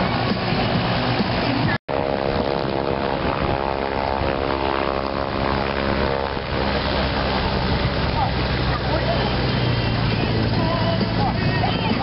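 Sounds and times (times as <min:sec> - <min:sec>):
small plane engine and propeller: 0:00.0 - 0:12.0.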